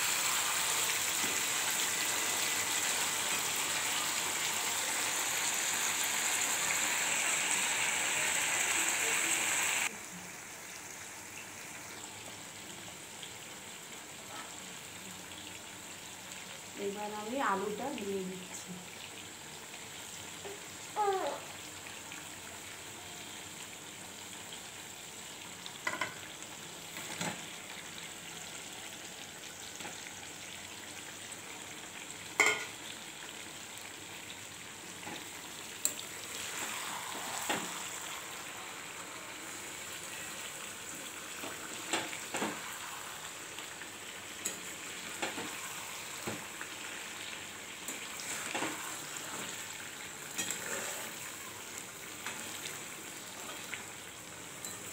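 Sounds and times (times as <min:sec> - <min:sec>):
food sizzling in hot oil: 0:00.0 - 0:54.9.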